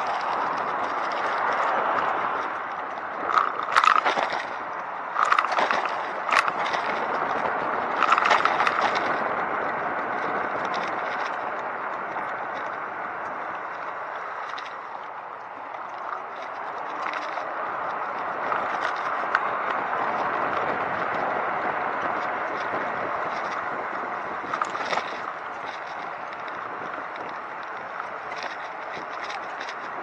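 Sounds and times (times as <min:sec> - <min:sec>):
bicycle road noise: 0:00.0 - 0:30.0
crackles and scrapes: 0:00.0 - 0:30.0.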